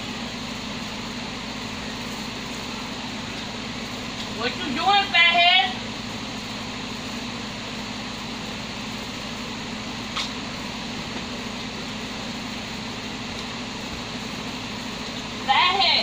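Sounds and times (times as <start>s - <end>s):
whirring hum and hiss: 0.0s - 16.0s.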